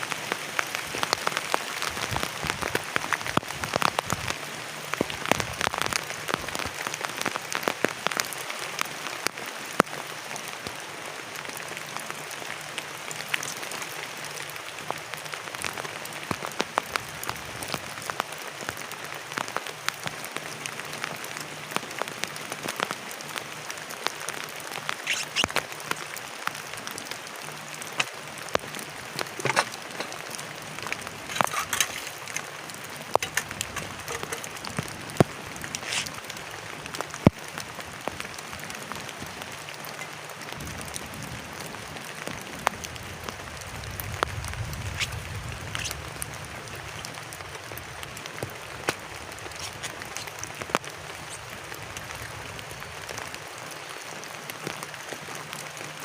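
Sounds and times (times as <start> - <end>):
heavy rain on a plastic tarp: 0.0 - 56.0.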